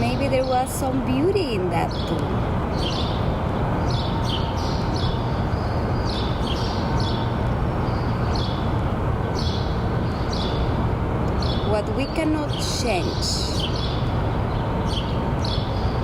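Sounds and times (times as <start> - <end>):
birds chirping: 0.0 - 16.0
steady rushing noise: 0.0 - 16.0.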